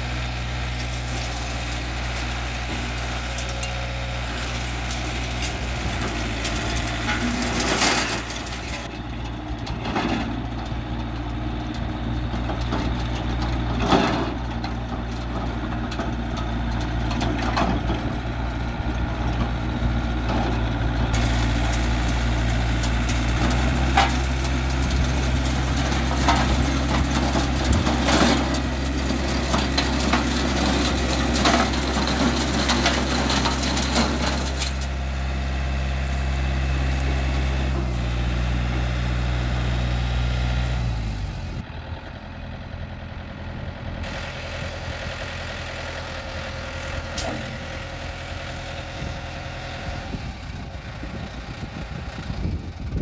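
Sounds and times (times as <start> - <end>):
tiller tines churning dirt: 0.0 - 41.9, 44.0 - 53.0
tractor diesel engine running: 0.0 - 53.0.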